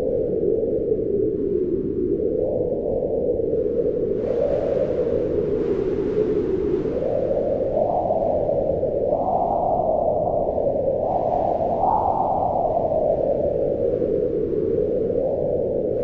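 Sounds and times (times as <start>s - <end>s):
howling wind: 0.0s - 16.0s.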